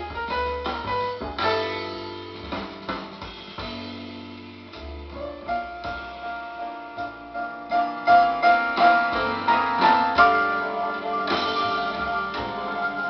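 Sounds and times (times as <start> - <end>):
jazz piano trio music: 0.0 - 13.0.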